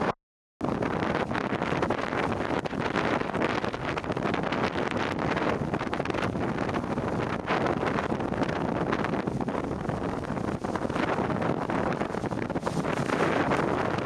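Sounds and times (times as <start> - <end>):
strong wind buffeting microphone: 0.0 - 14.0
waves breaking along hull: 0.6 - 14.0.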